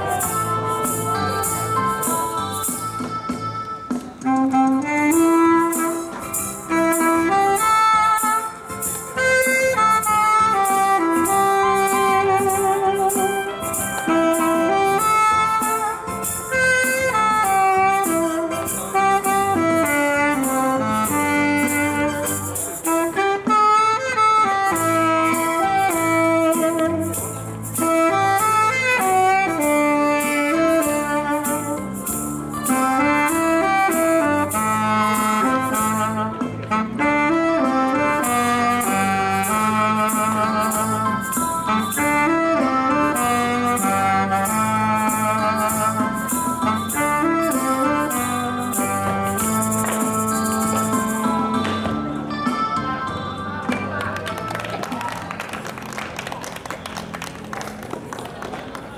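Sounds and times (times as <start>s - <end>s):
hand shaker rhythm: 0.0s - 51.9s
backing track with bass line: 0.0s - 55.8s
saxophone melody: 0.0s - 58.2s.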